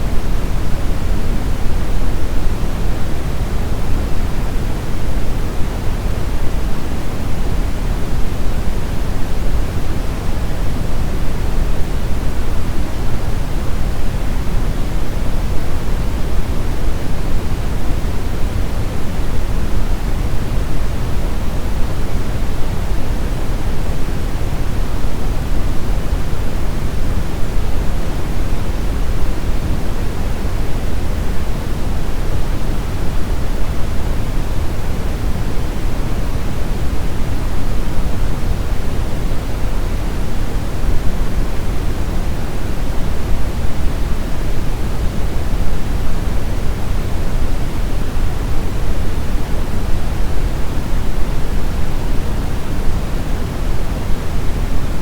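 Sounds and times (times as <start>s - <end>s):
brown noise rumbling hiss: 0.0s - 55.0s.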